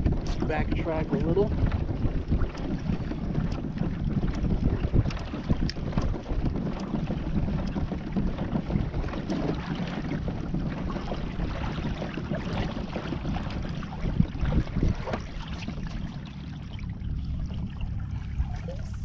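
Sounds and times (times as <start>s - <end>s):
water washing against hull: 0.0s - 19.0s
wind buffeting microphone: 0.0s - 19.0s.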